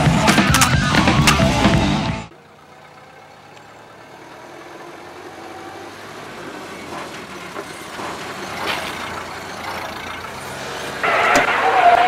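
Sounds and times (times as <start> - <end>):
car approaching: 0.0 - 12.0.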